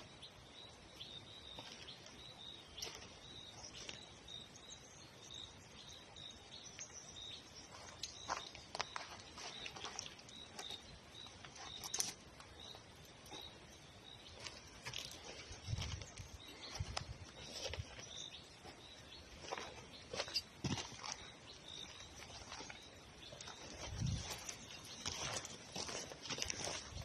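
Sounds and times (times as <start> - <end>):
faint outdoor ambience: 0.0 - 27.0.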